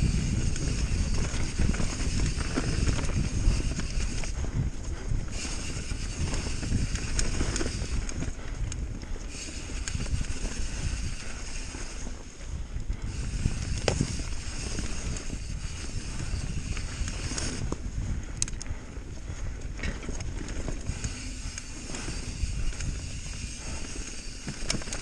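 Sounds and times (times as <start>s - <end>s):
bike tyre rumble on dirt: 0.0s - 25.0s
wind buffeting microphone: 0.0s - 25.0s.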